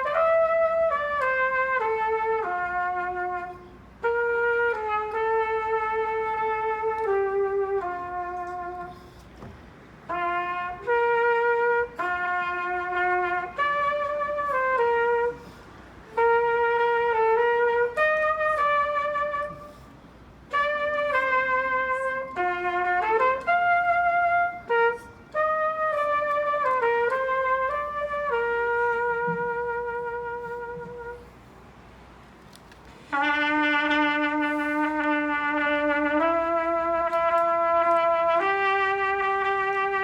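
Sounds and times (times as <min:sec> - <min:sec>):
solo wind instrument melody: 0:00.0 - 0:40.0.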